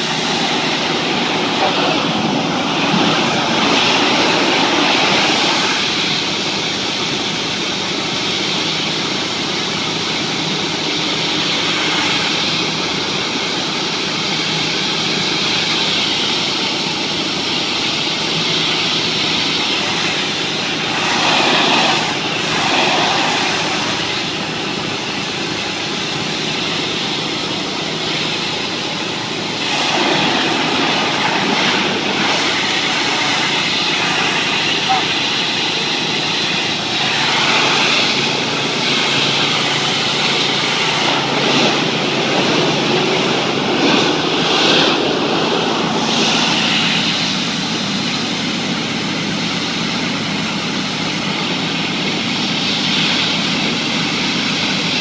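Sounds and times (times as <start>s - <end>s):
pressure washer spraying: 0.0s - 55.0s.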